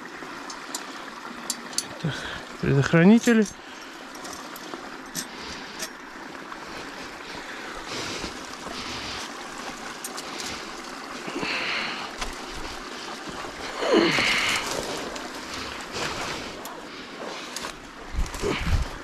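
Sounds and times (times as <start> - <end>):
water sloshing and splashing: 0.0 - 19.0
twigs rustling and cracking: 3.2 - 19.0.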